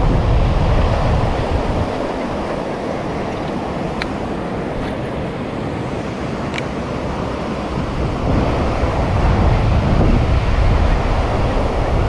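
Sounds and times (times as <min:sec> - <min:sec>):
river water flowing: 0:00.0 - 0:12.0
wind on microphone: 0:00.0 - 0:12.0.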